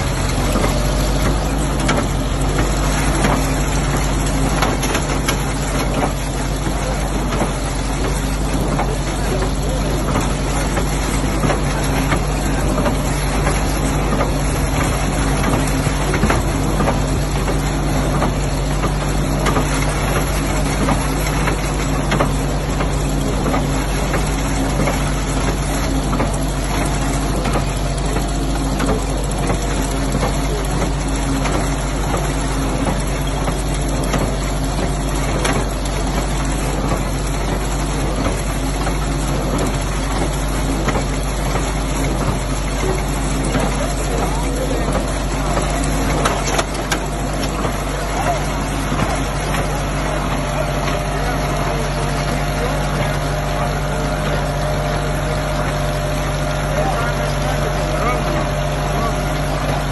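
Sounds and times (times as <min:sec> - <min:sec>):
baler machine humming and clattering: 0:00.0 - 0:59.9.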